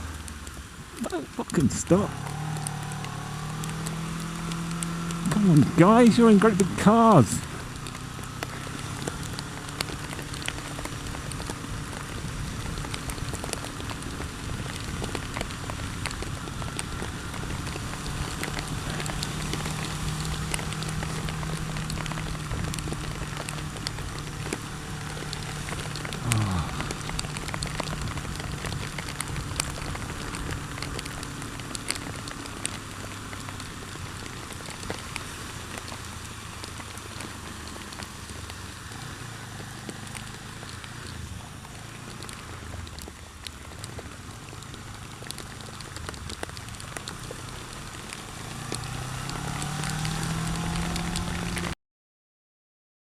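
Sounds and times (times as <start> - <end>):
heavy rain pattering: 0.0 - 51.8
motorcycle engine running: 0.0 - 51.8.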